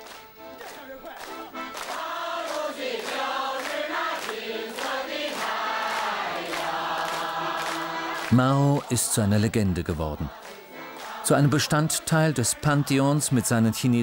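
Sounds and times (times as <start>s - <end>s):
choir singing in unison: 1.8s - 14.0s.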